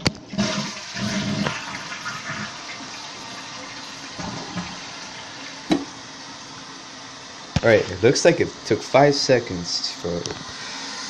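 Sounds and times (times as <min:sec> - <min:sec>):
running water: 0:00.0 - 0:11.0
toilet flushing: 0:00.0 - 0:11.0.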